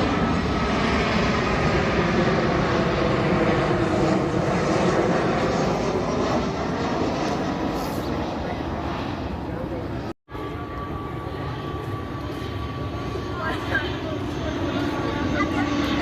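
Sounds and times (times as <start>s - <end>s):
aeroplane engines roaring: 0.0s - 16.0s.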